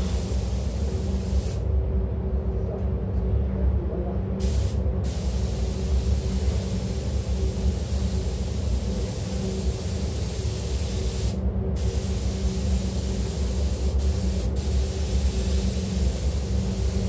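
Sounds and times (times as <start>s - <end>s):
spray gun hissing: 0.0s - 1.6s, 4.4s - 17.0s
ventilation drone: 0.0s - 17.0s.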